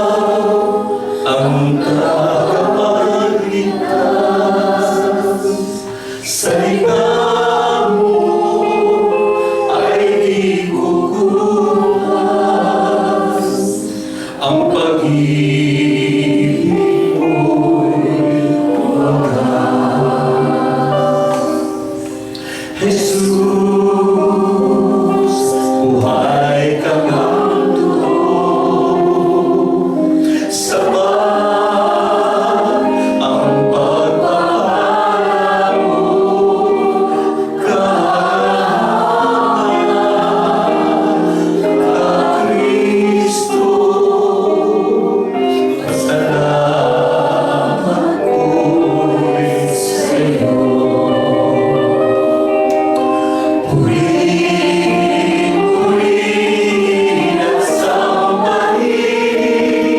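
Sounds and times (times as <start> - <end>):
congregation singing: 0.0 - 59.9.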